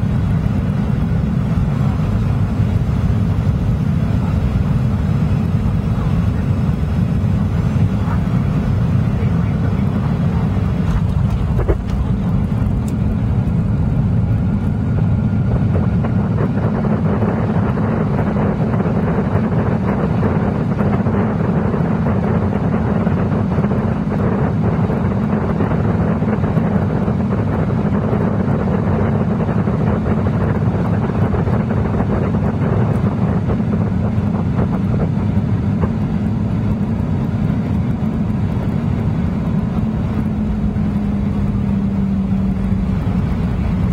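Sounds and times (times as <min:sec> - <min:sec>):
airplane engines rumbling: 0:00.0 - 0:43.9.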